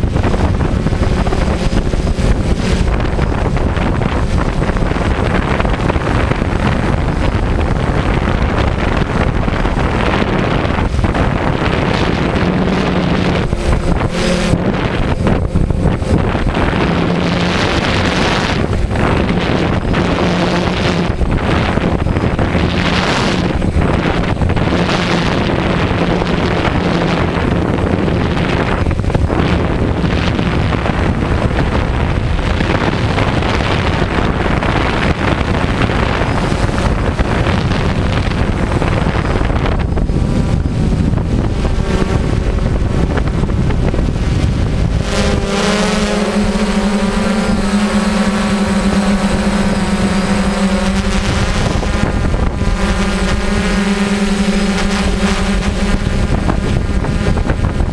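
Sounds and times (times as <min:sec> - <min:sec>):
drone propellers buzzing: 0:00.0 - 0:57.9
wind rushing over microphone: 0:00.0 - 0:57.9.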